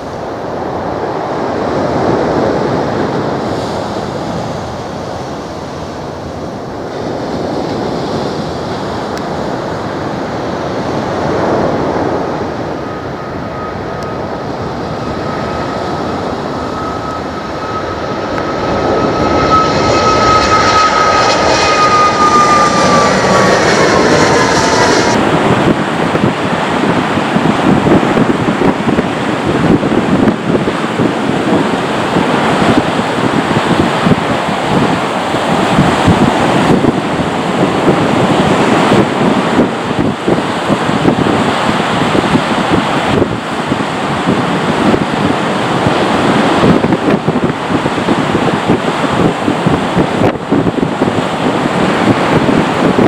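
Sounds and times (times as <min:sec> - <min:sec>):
high jet engine whine: 0:00.0 - 0:53.0
jet taking off: 0:00.0 - 0:53.0.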